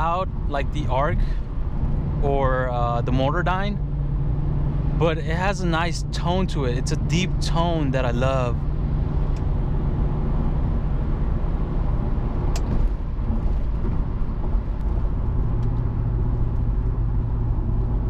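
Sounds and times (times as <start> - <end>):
car exhaust cruising: 0.0 - 18.0.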